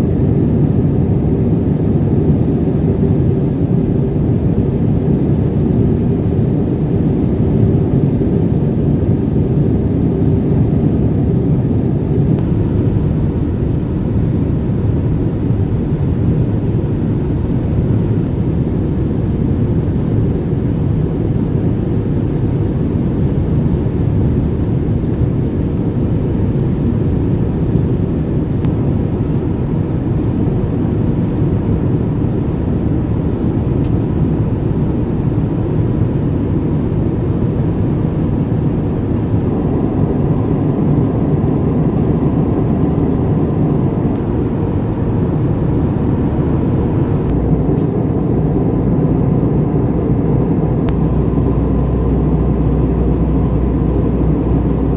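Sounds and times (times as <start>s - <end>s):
airliner cabin engine rumble: 0.0s - 54.9s
faint steady whine: 0.0s - 54.9s.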